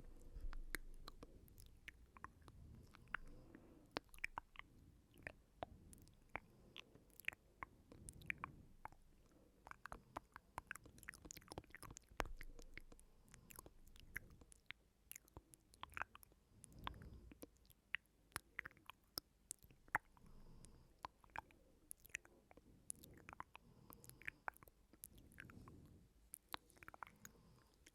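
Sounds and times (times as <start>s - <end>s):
wet mouth clicks and smacks: 0.0s - 27.9s.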